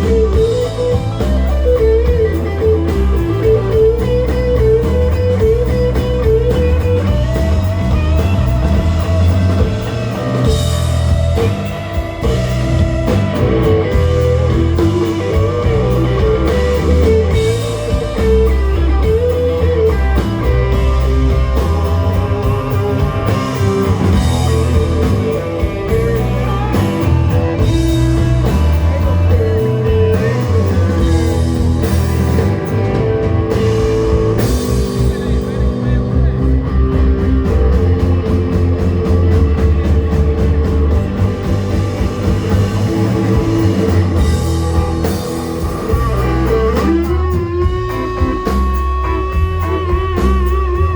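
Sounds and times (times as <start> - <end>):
rock music with bending guitar: 0.0 - 50.9.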